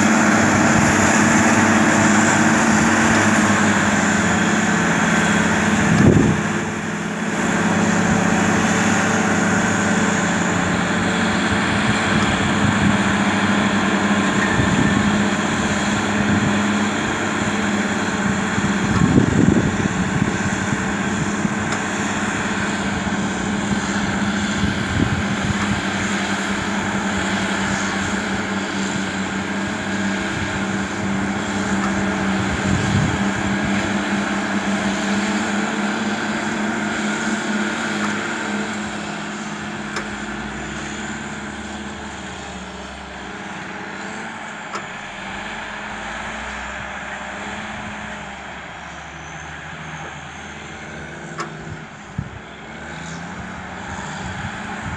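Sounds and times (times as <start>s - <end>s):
diesel engines under load: 0.0s - 54.9s.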